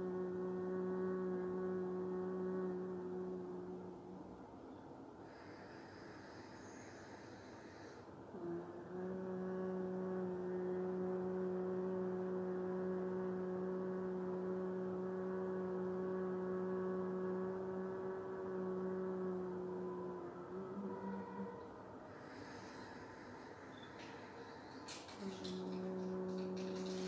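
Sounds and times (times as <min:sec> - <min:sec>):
woman humming a steady note: 0:00.0 - 0:04.7, 0:05.3 - 0:27.0.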